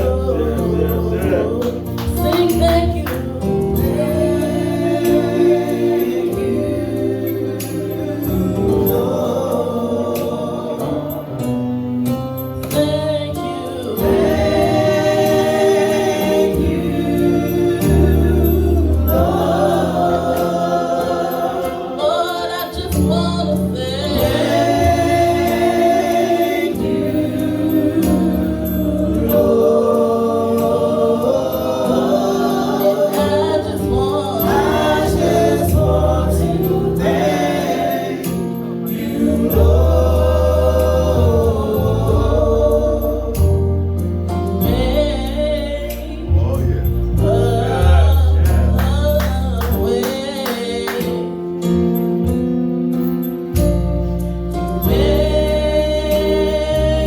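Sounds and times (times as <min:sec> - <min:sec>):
gospel choir singing: 0:00.0 - 0:57.0
instrumental backing with bass: 0:00.0 - 0:57.0.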